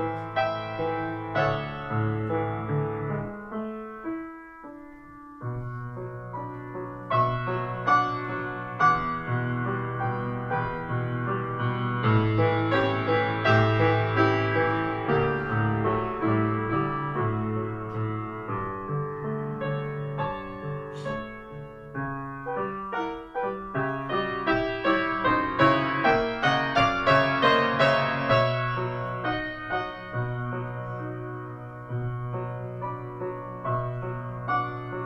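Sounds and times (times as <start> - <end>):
solo grand piano playing: 0.0 - 35.0.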